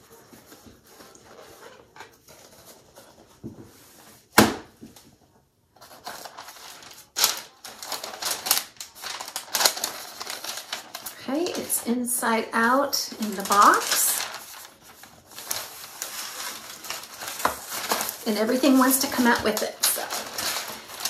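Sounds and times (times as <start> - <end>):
tissue paper rustling and crinkling: 0.0 - 5.2, 5.8 - 21.0.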